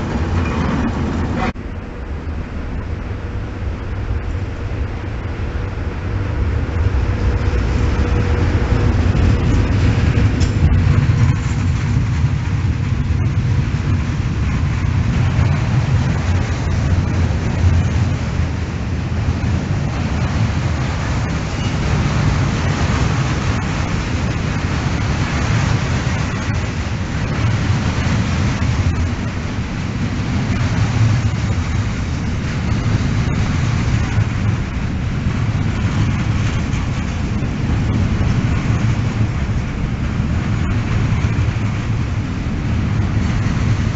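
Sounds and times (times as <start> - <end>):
freight train wheels rumbling on rail: 0.0 - 43.9.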